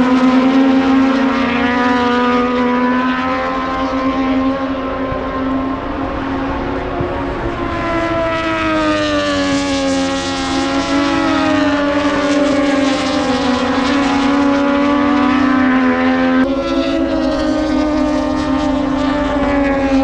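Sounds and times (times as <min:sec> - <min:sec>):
racing motorcycle engine revving: 0:00.0 - 0:20.0.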